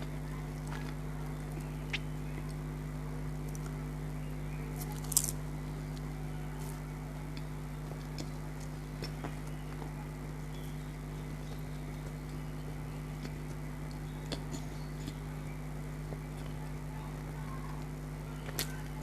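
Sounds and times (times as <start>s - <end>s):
quiet chewing with crunches: 0.0s - 19.0s
steady electrical hum: 0.0s - 19.0s.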